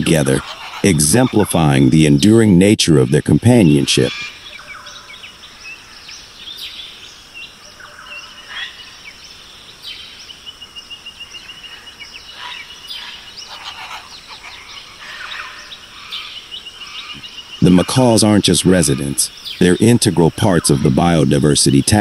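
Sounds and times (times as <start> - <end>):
bird calls and chirps: 0.0 - 22.0
steady high hiss: 0.0 - 22.0.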